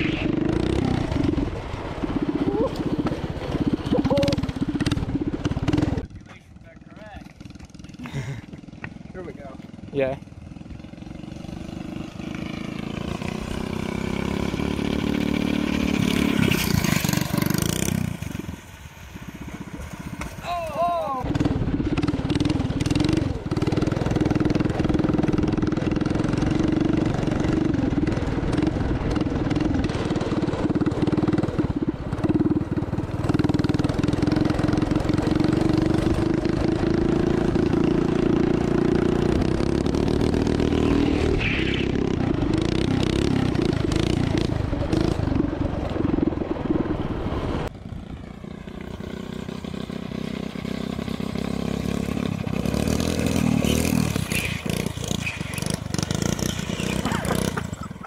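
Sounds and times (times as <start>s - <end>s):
small engine running hard: 0.0s - 58.0s.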